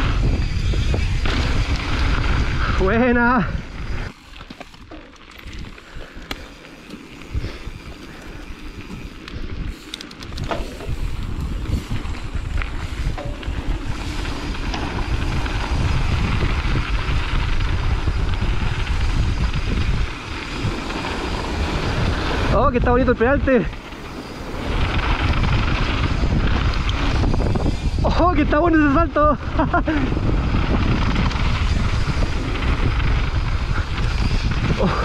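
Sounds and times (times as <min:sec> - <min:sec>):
bike clicks and rattles: 0:00.0 - 0:35.0
bike tyre noise on dirt: 0:00.0 - 0:35.0
wind buffeting microphone: 0:00.0 - 0:35.0.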